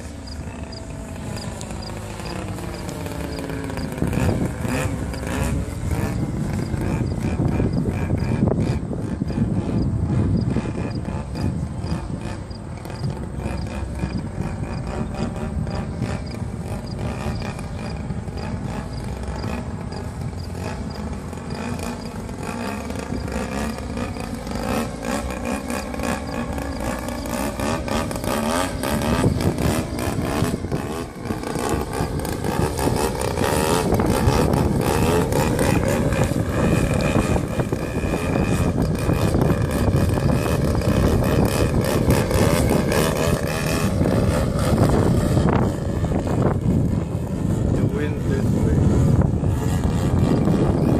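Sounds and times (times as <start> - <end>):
model airplane engine in flight: 0.0 - 50.9.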